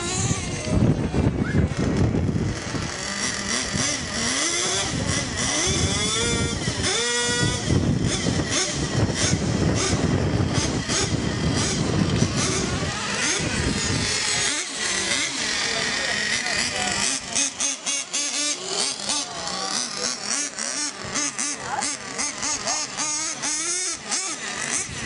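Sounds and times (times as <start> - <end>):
small kart engine revving: 0.0 - 25.0.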